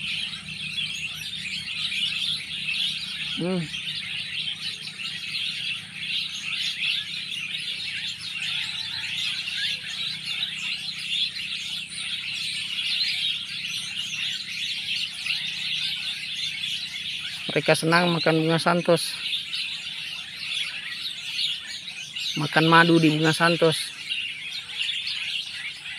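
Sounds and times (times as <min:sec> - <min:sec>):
flock of small birds twittering: 0:00.0 - 0:25.9.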